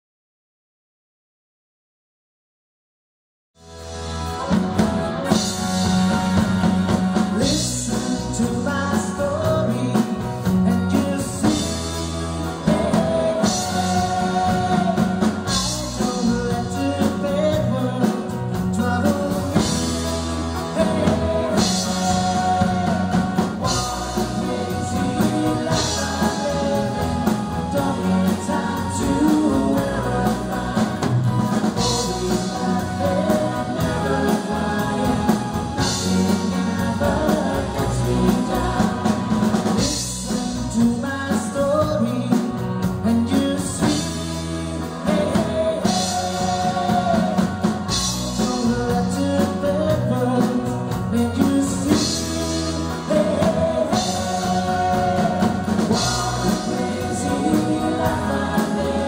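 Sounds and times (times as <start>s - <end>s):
pop-rock band playing: 3.6s - 59.0s
person singing: 4.2s - 59.0s.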